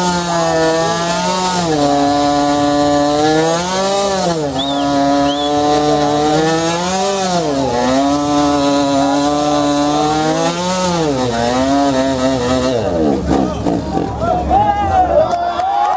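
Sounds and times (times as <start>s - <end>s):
scooter engine revving: 0.0s - 15.4s.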